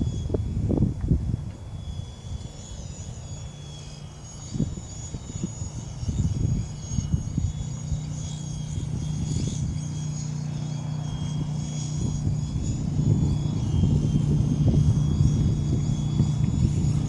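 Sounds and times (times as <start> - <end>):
wind buffeting microphone: 0.0 - 2.8, 4.4 - 17.0
helicopter rotor whine: 0.0 - 17.0.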